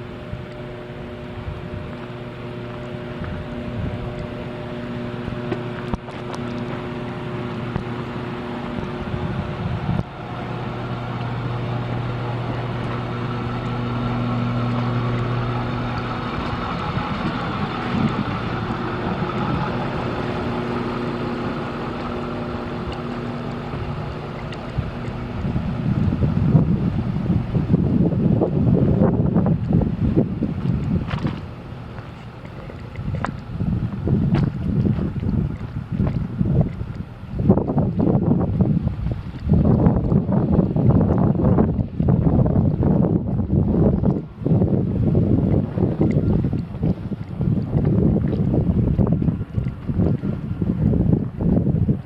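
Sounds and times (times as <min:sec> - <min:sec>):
engine humming: 0:00.0 - 0:52.0
wind noise on microphone: 0:00.0 - 0:52.0.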